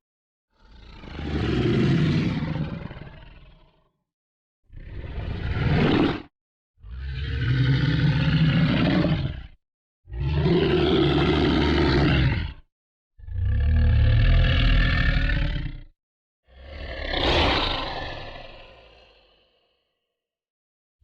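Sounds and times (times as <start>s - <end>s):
deep monster growls: 0.5s - 3.9s, 4.7s - 19.9s.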